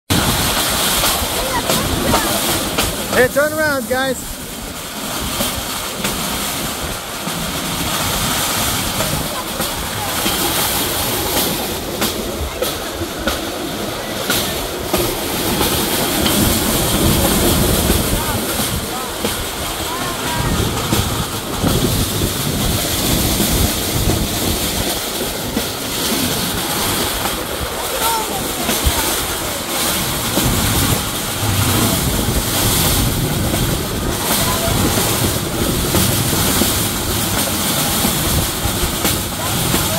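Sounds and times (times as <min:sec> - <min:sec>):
steel wheels rumbling on rails: 0:00.1 - 0:39.9
wind buffeting microphone: 0:00.1 - 0:39.9
sharp rail clicks: 0:04.8 - 0:39.9.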